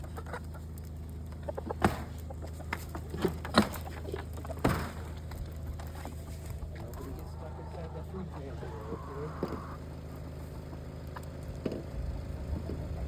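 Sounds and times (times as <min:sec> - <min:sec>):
poultry clucking: 0:00.0 - 0:13.0.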